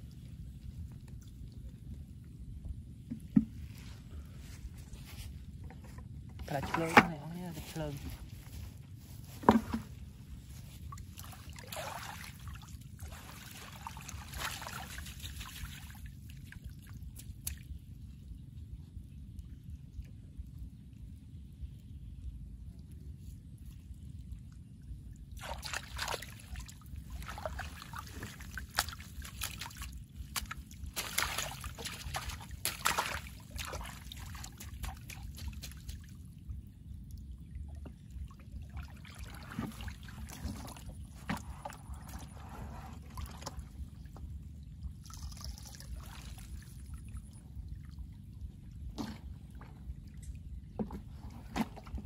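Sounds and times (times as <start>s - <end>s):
steady low rumble: 0.0s - 52.0s
water splashing and sloshing: 0.0s - 52.0s.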